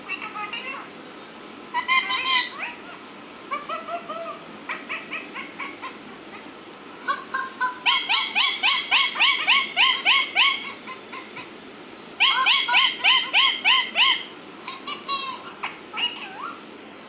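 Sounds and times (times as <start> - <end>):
parakeet calling: 0.0 - 17.0.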